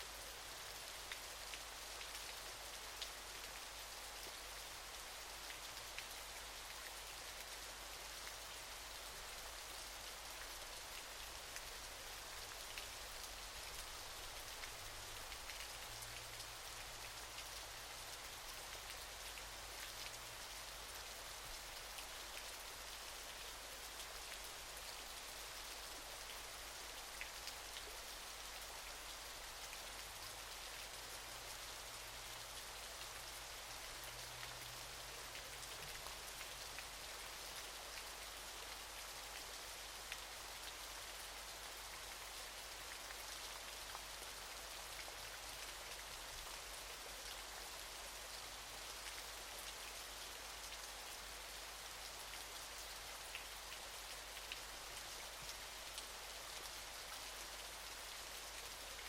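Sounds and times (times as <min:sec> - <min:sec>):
waterfall: 0:00.0 - 0:59.0.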